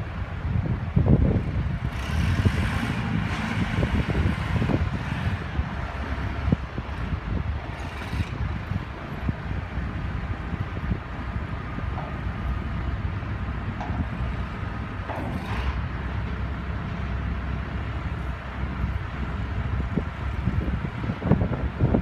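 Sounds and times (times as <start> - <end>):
wheel loader diesel engine: 0.0 - 22.0.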